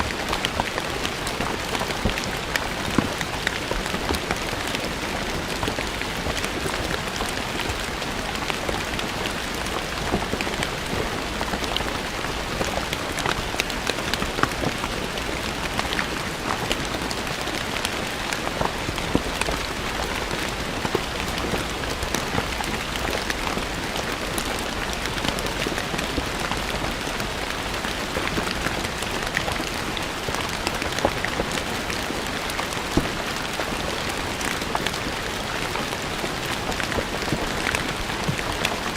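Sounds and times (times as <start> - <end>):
rain pattering on stone paving: 0.0 - 38.9.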